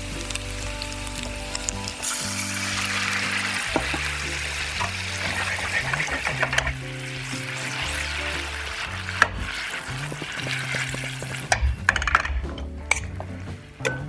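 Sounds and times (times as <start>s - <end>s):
background music: 0.0s - 14.0s
water sizzling in a frying pan: 0.0s - 14.0s.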